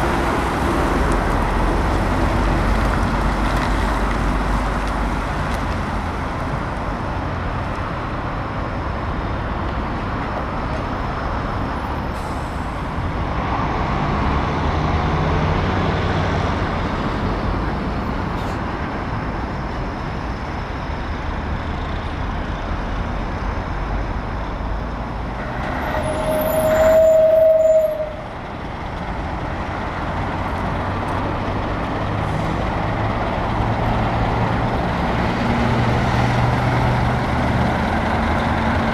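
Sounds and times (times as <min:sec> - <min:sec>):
diesel trucks rumbling: 0:00.0 - 0:38.9.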